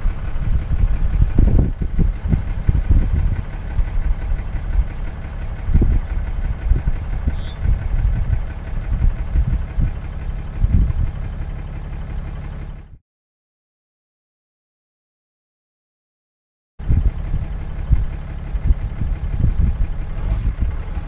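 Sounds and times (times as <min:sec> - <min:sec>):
truck engine and road rumble: 0:00.0 - 0:13.0, 0:16.8 - 0:21.0.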